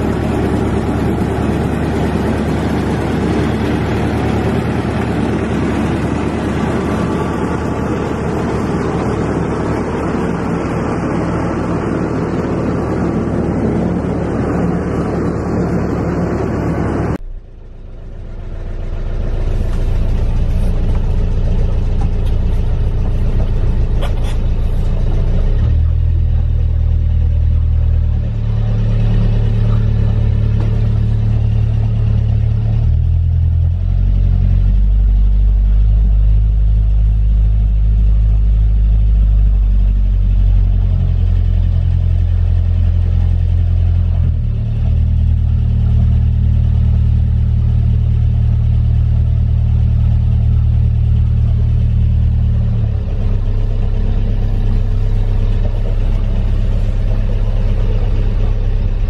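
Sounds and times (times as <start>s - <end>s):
diesel boat engine droning: 0.0s - 59.0s.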